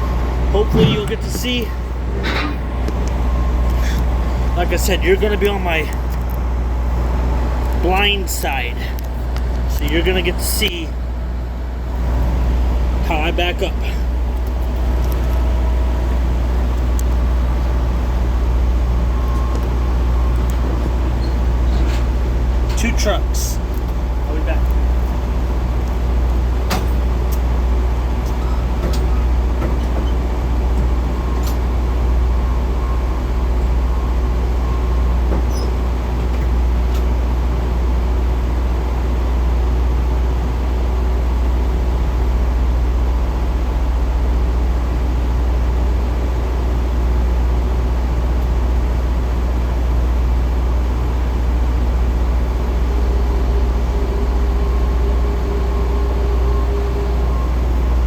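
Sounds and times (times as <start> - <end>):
diesel truck engine rumbling: 0.0 - 58.0.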